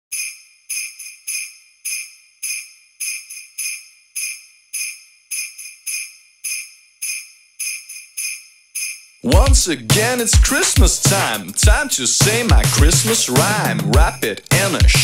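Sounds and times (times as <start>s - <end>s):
sleigh bells shaken: 0.1s - 15.0s.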